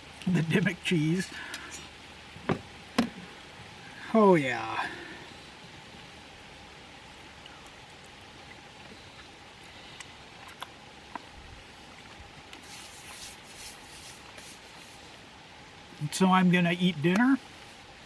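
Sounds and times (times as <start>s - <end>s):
faint constant hum: 0.0s - 18.0s
low background hiss: 0.0s - 18.0s
rustling hiss: 0.0s - 18.0s.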